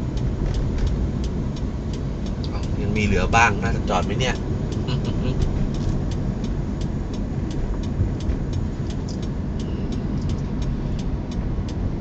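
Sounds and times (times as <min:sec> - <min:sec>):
car engine and road rumble: 0:00.0 - 0:12.0
light regular ticking: 0:00.0 - 0:12.0.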